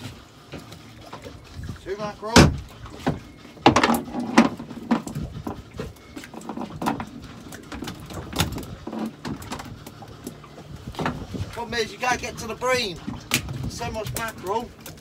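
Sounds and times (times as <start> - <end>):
fish thumping on boat: 0.5 - 15.0.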